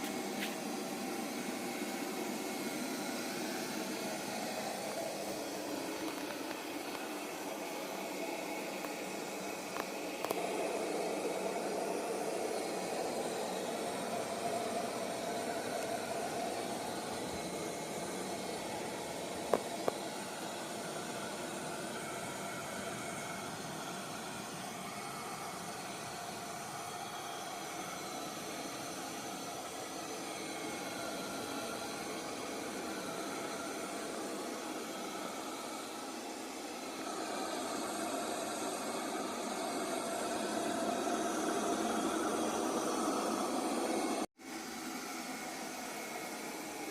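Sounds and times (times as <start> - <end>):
robot vacuum whirring: 0.0 - 46.9.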